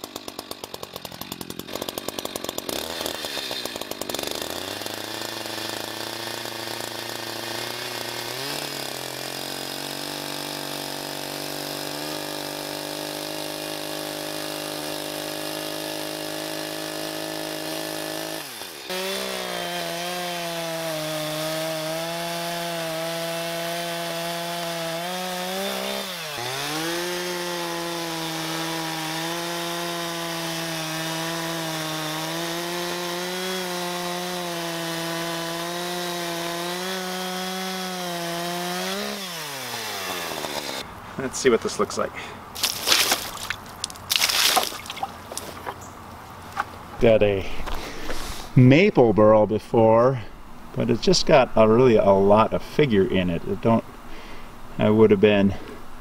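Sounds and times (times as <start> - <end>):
chainsaw cutting wood: 0.0 - 48.6.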